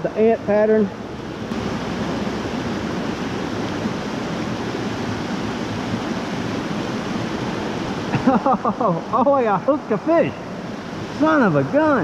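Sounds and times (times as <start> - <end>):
creek water rushing over rocks: 0.1 - 12.0.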